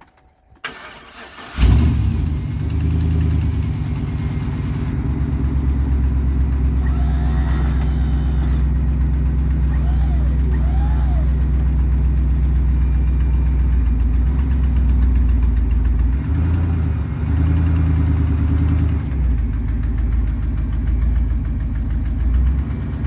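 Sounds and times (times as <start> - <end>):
pickup truck engine idling: 0.7 - 23.0.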